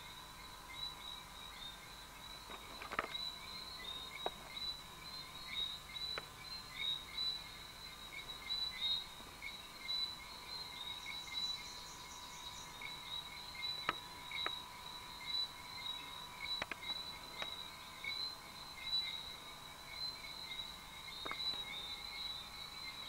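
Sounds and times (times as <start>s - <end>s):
insect chorus chirring: 0.0s - 23.0s.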